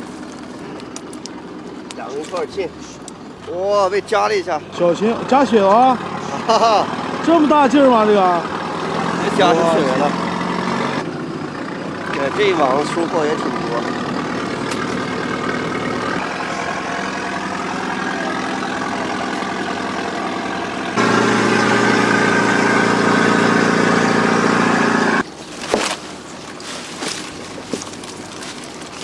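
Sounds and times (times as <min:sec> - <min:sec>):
boat motor droning: 0:00.0 - 0:29.0.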